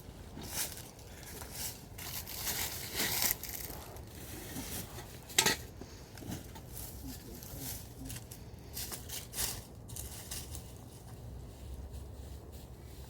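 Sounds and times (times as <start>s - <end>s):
rustling and crunching handling: 0.0s - 13.0s.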